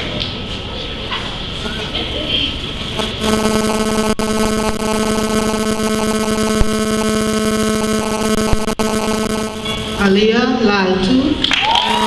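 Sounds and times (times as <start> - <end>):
loud electrical hum: 0.0 - 12.0.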